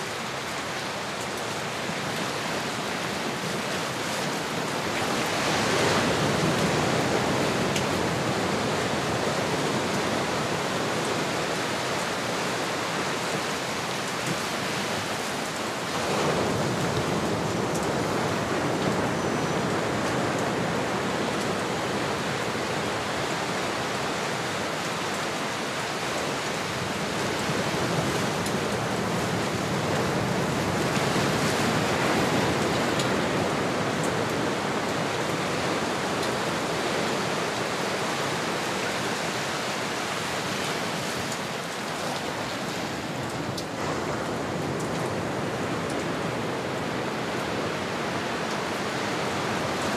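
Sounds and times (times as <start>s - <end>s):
ocean waves on shore: 0.0s - 49.9s.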